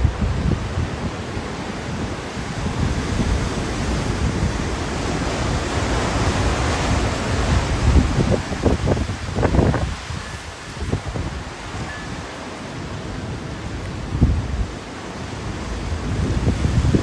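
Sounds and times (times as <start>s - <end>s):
wind blowing in hard gusts: 0.0s - 17.0s
wind buffeting the microphone: 0.0s - 17.0s.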